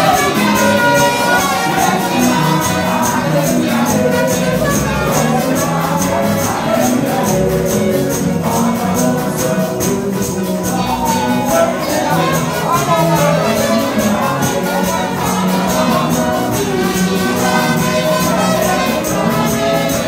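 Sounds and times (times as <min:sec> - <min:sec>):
band playing gospel music: 0:00.0 - 0:20.0
high-pitched percussion beat: 0:00.0 - 0:20.0
man singing: 0:00.0 - 0:20.0
woman singing: 0:00.0 - 0:20.0.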